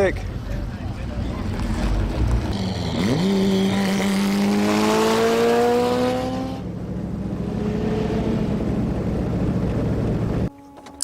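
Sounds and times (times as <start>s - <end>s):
car engine accelerating hard: 1.1s - 10.5s.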